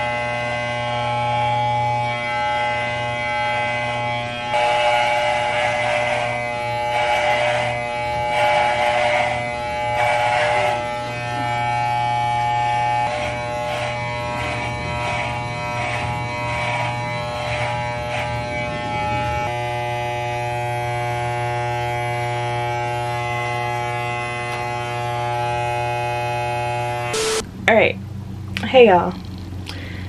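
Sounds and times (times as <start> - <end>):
electric hair clippers buzzing: 0.0 - 27.5.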